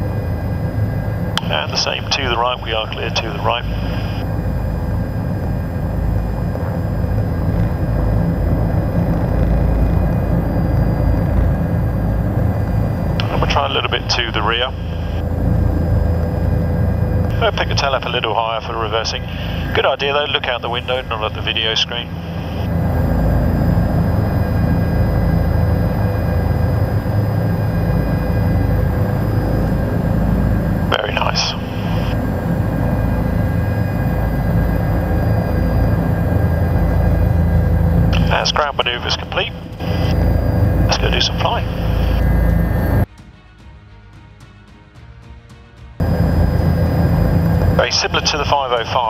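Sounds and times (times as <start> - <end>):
helicopter rotor drone: 0.0 - 43.1, 46.0 - 49.0
turbine whine: 0.0 - 43.1, 46.0 - 49.0.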